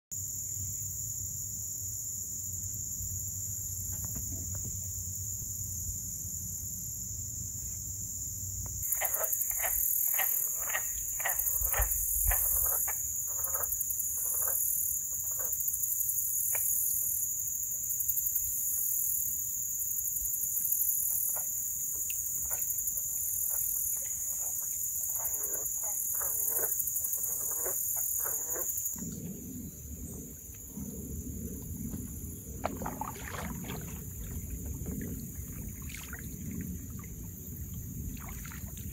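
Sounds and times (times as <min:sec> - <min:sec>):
insect chorus: 0:00.1 - 0:38.9.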